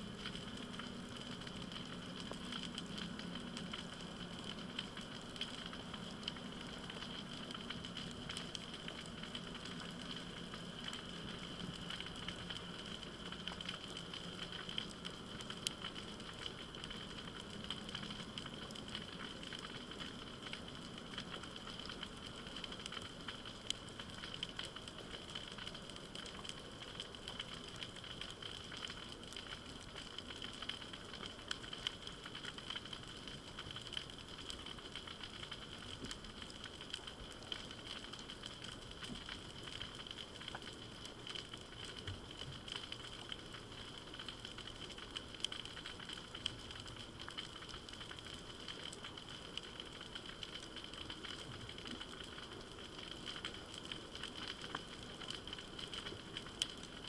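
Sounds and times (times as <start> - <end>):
snapping shrimp crackle: 0.1 - 57.0.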